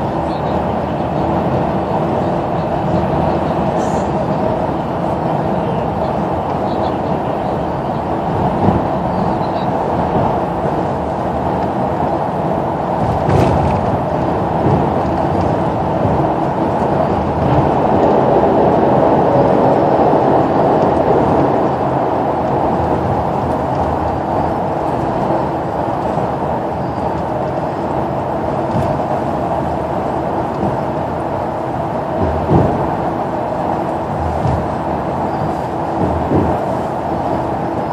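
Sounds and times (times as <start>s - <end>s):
bus road and engine rumble: 0.0s - 37.9s.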